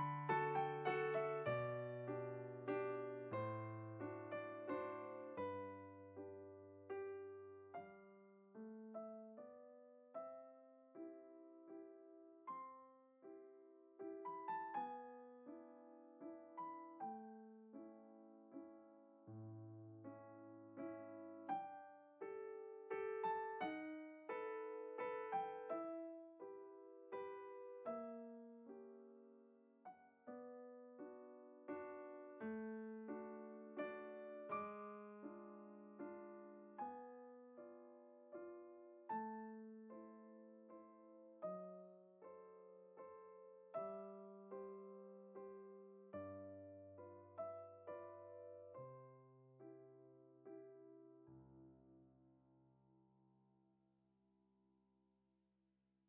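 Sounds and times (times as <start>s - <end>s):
soft piano chords: 0.0s - 52.9s.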